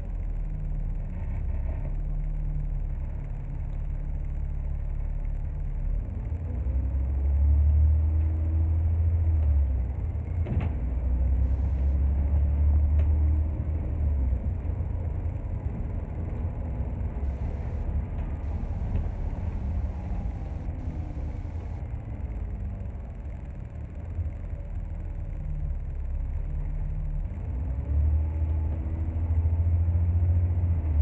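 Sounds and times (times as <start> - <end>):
bus engine rumble: 0.0 - 31.0.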